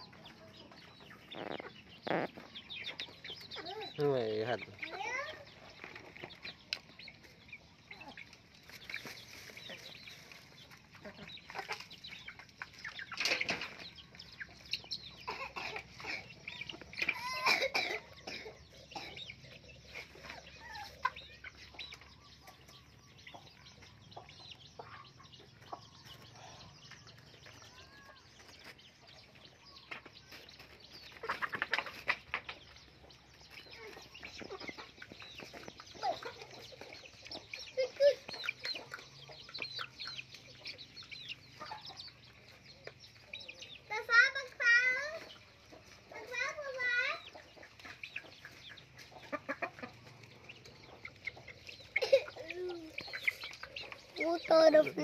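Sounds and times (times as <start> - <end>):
young chickens clucking: 0.0 - 55.0.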